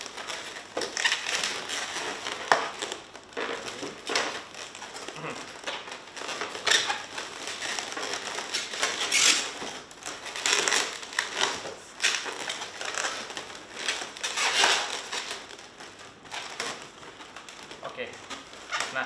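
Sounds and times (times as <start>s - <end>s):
balloons squeaking and rubbing: 0.0s - 19.0s.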